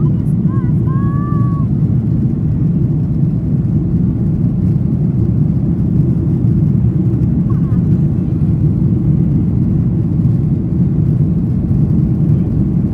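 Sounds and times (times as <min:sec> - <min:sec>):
jet engine roar in cabin: 0:00.0 - 0:12.9.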